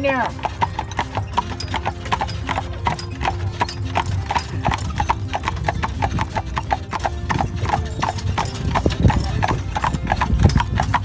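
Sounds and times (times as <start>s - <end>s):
horse hooves clip-clopping on pavement: 0.0s - 11.0s.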